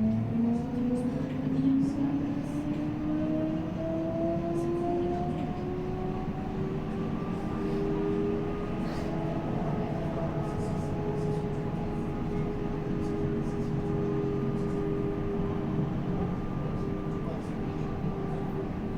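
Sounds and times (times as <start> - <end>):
tram motor whine: 0.0 - 18.9.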